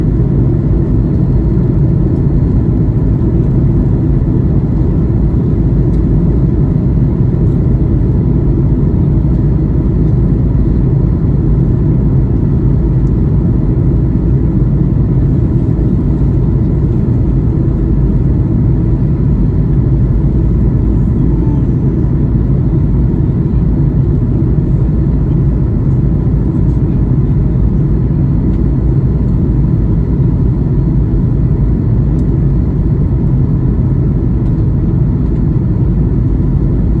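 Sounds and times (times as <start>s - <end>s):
airplane cabin drone: 0.0s - 37.0s.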